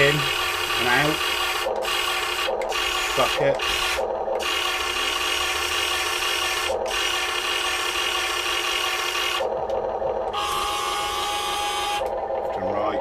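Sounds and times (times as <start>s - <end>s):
electric motors and gears whirring: 0.0s - 13.0s.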